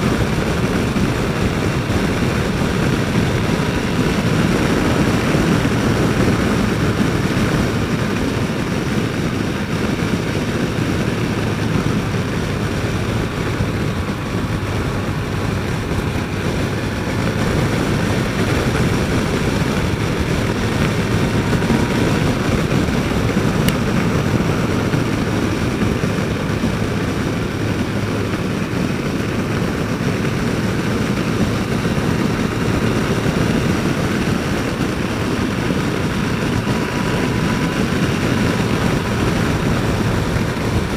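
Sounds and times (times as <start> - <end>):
motorcycle engine drone: 0.0 - 40.9
wind rush: 0.0 - 40.9.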